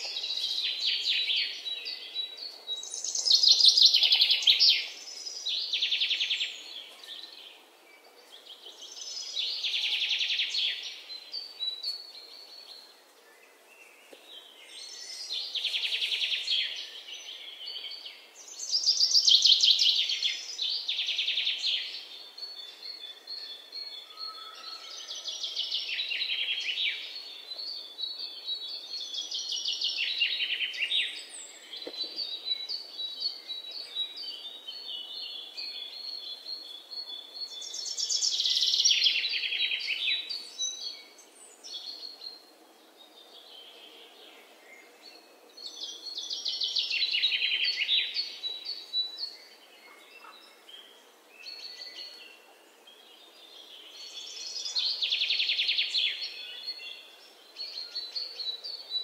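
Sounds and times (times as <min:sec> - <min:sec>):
birds chirping and trilling: 0:00.0 - 0:59.0.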